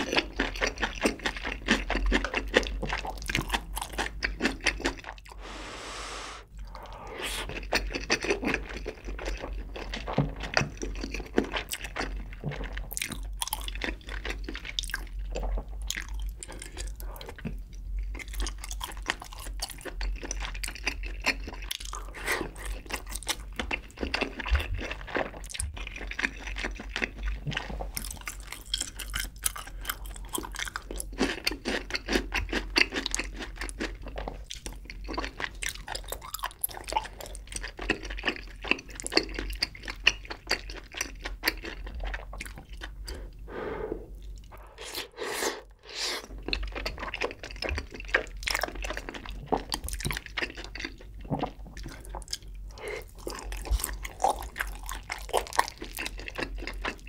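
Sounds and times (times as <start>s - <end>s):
close chewing with mouth clicks: 0.0s - 5.5s, 6.5s - 43.5s, 44.1s - 57.0s.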